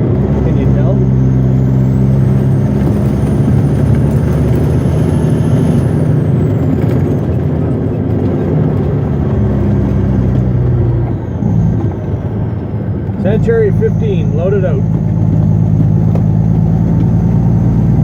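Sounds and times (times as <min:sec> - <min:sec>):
road noise: 0:00.0 - 0:18.0
truck diesel engine drone: 0:00.0 - 0:18.0.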